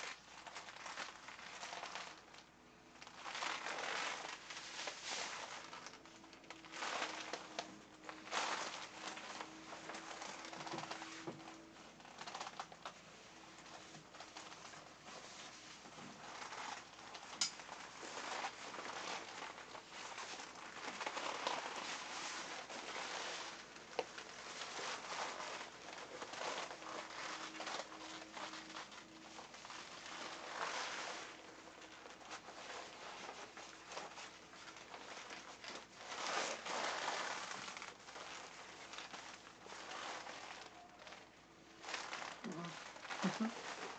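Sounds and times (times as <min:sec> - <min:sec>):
crinkly rustling of plastic suit: 0:00.0 - 0:43.9.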